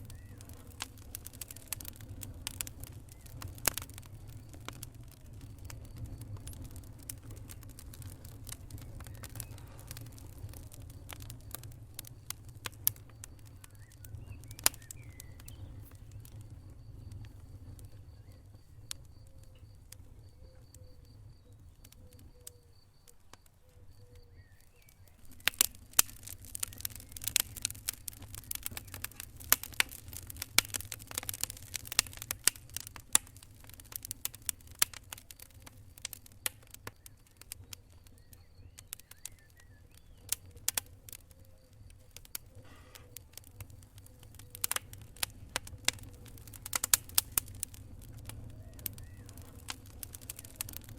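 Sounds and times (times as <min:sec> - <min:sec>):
flames rumbling: 0:00.0 - 0:50.9
wood fire crackling and popping: 0:00.0 - 0:50.9.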